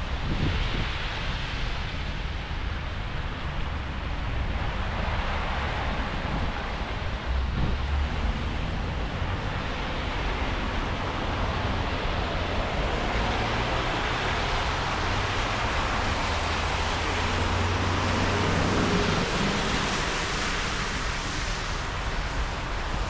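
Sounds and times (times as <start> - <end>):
road traffic passing: 0.2 - 23.0.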